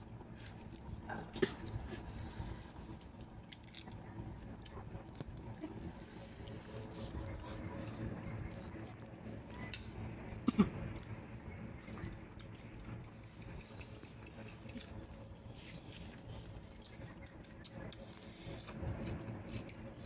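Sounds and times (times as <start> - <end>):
chewing with crunching: 0.0 - 20.0.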